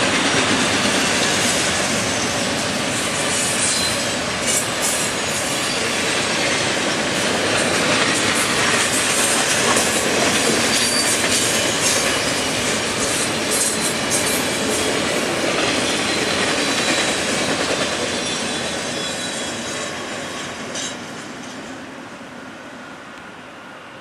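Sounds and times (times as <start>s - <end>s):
train wheels clicking over track joints: 0.0s - 21.7s.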